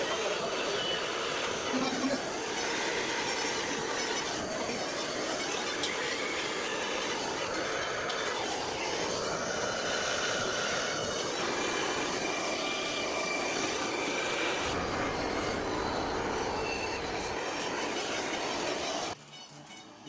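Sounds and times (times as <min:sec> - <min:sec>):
gas torch flame hissing: 0:00.0 - 0:19.2
thin high whistles: 0:00.0 - 0:20.0.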